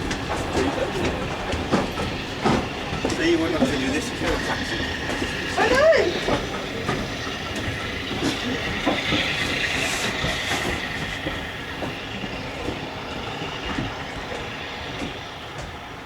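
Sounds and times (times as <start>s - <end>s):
train rumble and hiss: 0.0s - 16.0s
wheels clicking over track: 0.0s - 16.0s.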